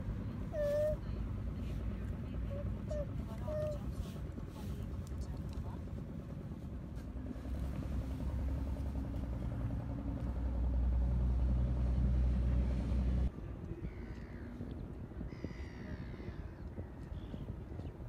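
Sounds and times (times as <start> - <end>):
vehicle engine humming: 0.0 - 15.7.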